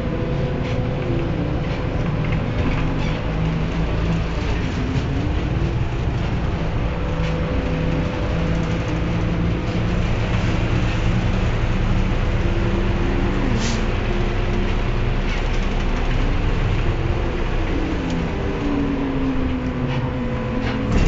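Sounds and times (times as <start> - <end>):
trolleybus interior rumble: 0.0 - 21.0.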